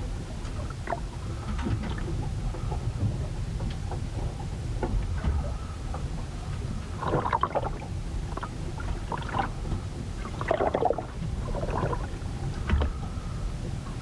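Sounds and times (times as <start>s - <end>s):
water splashing against hull: 0.0s - 14.0s.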